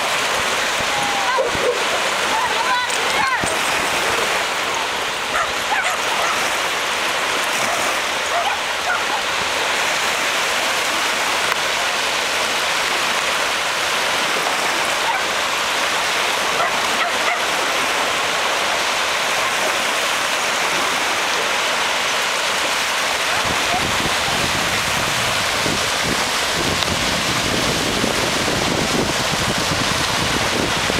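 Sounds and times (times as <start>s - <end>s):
waves washing onto shore: 0.0s - 30.9s.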